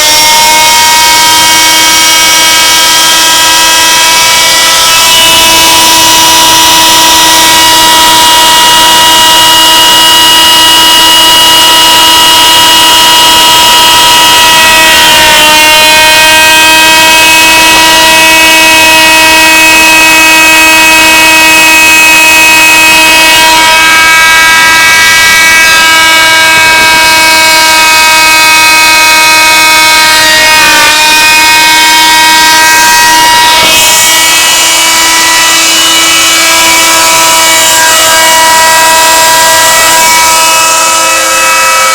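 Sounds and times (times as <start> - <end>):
cnc router whining: 0.0 - 41.9.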